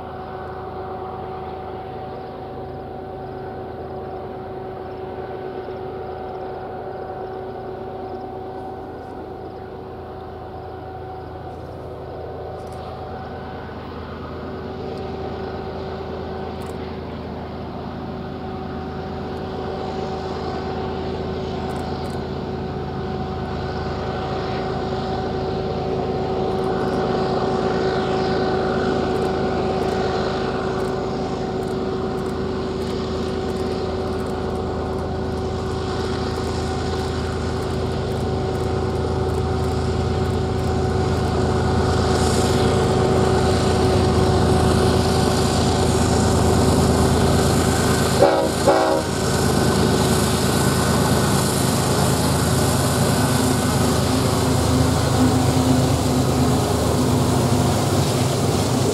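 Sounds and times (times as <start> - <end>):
diesel locomotive engine drone: 0.0 - 58.9
train cars rumbling on rails: 0.0 - 58.9.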